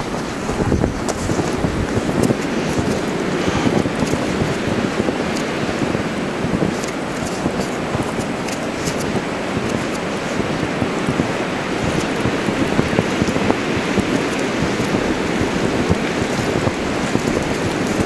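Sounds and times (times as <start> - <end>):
dense fine crackle: 0.0 - 18.0
snowstorm wind rushing: 0.0 - 18.0.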